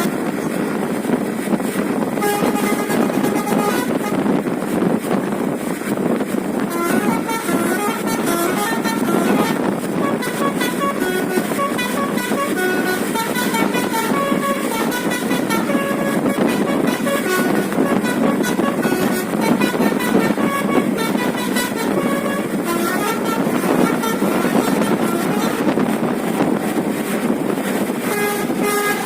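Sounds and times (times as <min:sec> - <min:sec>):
bus horn playing a melody: 0:02.1 - 0:04.5, 0:06.5 - 0:29.0.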